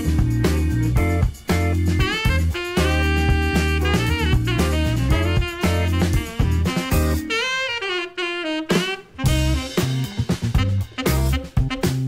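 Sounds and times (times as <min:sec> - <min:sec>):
jazz music with saxophone: 0:00.0 - 0:12.0.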